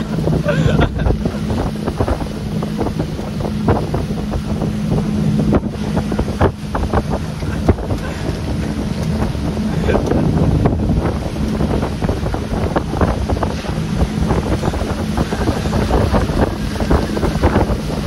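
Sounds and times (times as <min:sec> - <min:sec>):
motorboat engine drone: 0:00.0 - 0:18.0
rushing wake water: 0:00.0 - 0:18.0
wind buffeting microphone: 0:00.0 - 0:18.0.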